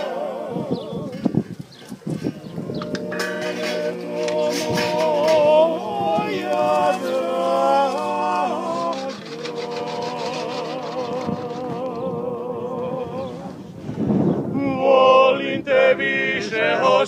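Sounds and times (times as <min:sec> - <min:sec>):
men singing in close harmony: 0:00.0 - 0:01.4, 0:02.3 - 0:13.7, 0:14.5 - 0:17.0.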